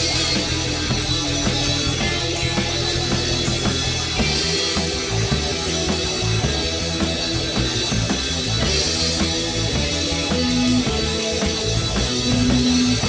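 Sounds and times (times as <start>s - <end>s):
drum kit: 0.0s - 13.0s
electric guitar: 0.0s - 13.0s
moving bass line: 0.0s - 13.0s.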